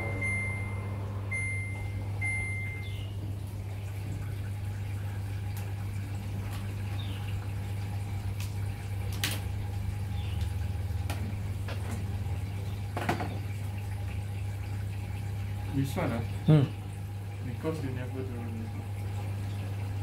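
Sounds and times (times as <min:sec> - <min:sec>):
washing machine humming: 0:00.0 - 0:20.0
water running in: 0:00.0 - 0:20.0.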